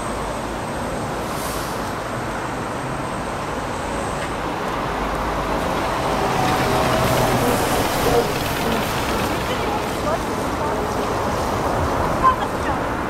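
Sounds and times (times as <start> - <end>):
street traffic: 0.0 - 13.0
trolleybus driving past: 0.0 - 13.0.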